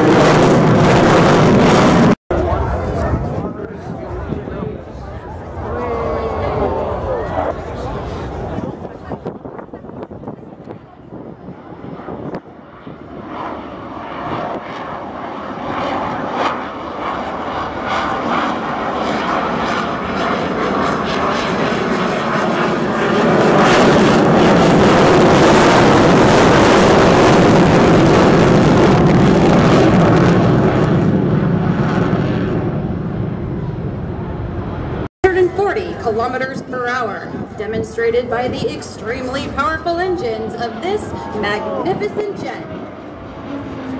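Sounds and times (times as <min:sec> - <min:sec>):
jet aircraft flying past: 0:00.0 - 0:43.9.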